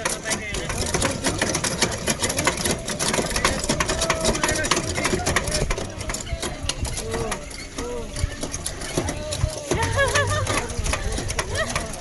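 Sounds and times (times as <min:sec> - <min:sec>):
rapid clattering clicks and knocks: 0:00.0 - 0:12.0.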